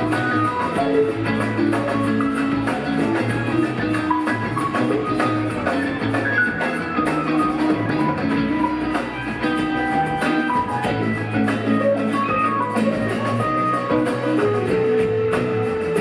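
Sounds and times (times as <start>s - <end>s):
bass: 0.0s - 16.0s
electric lead guitar: 0.0s - 16.0s
light drums and percussion: 0.0s - 16.0s.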